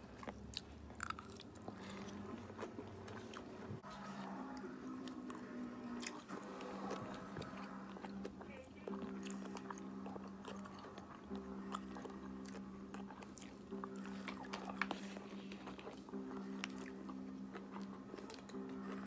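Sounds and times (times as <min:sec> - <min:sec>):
chewing and mouth clicks: 0:00.0 - 0:19.0
low steady hum: 0:00.0 - 0:19.0.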